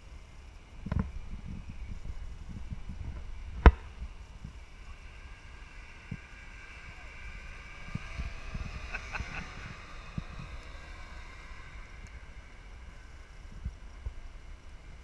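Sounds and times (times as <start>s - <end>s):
distant snowmobile engines: 0.0s - 15.0s
wind buffeting microphone: 0.0s - 15.0s.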